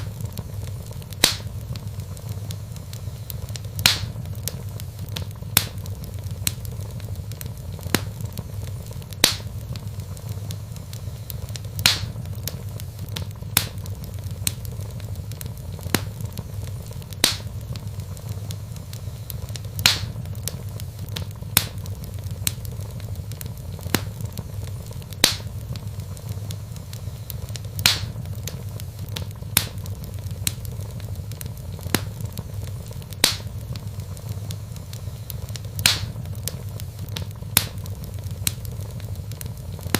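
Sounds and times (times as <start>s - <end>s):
fire crackles and pops: 0.0s - 39.9s
low rumble of flames: 0.0s - 39.9s.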